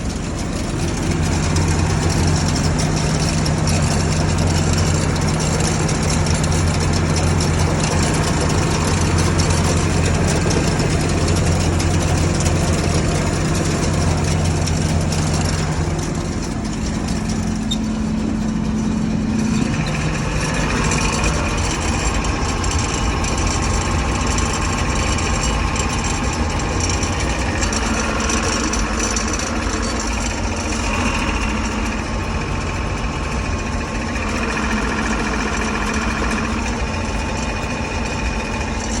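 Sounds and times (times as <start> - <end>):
combine engine running: 0.0 - 39.0
high steady whir: 0.0 - 39.0.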